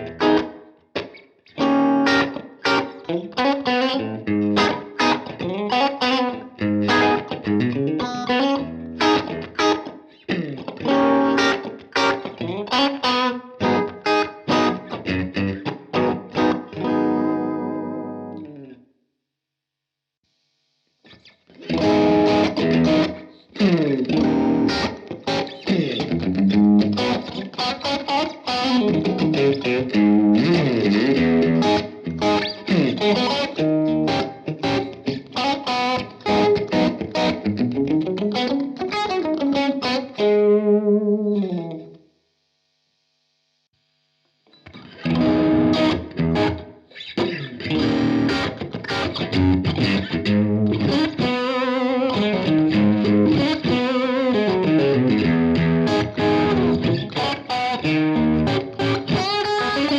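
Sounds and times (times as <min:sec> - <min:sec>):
electric guitar picked notes: 0:00.0 - 0:18.8, 0:21.1 - 0:42.0, 0:44.5 - 0:59.9.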